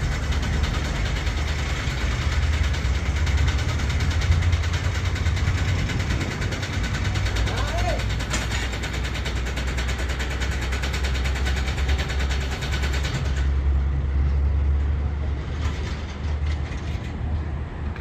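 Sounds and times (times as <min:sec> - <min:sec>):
fast even clatter: 0:00.0 - 0:13.8, 0:15.4 - 0:17.3
engine low rumble: 0:00.0 - 0:18.0.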